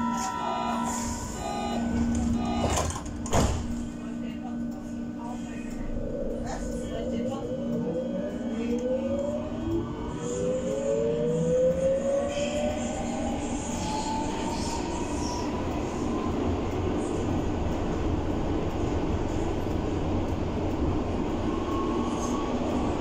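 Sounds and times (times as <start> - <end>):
train running rumble: 0.0 - 23.0
train traction motor whine: 0.0 - 23.0.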